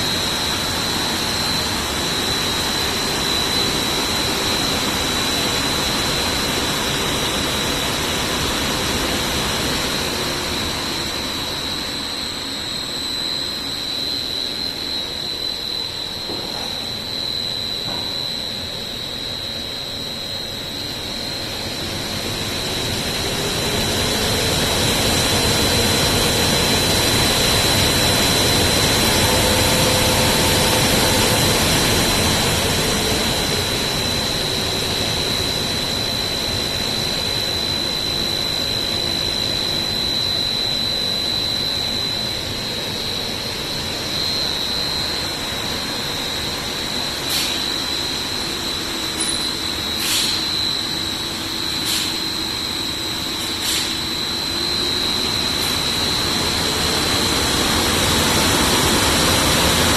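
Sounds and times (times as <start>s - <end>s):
cooling fan whining: 0.0s - 59.9s.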